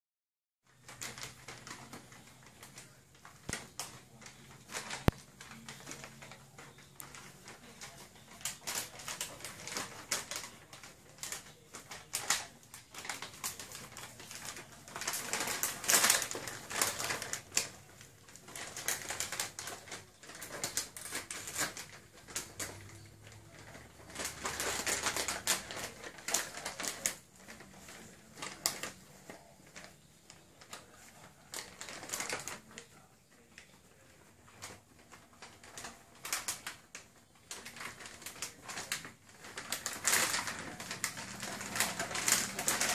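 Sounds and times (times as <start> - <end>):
plastic crisp packet crinkling: 0.7 - 42.9.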